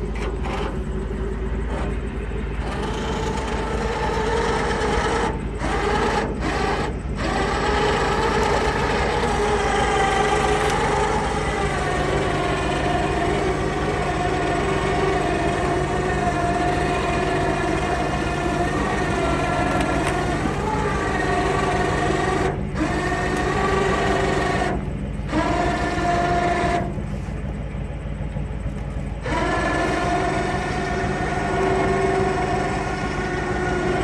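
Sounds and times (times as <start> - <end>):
chainsaw engine running: 1.6 - 27.3, 28.6 - 34.0.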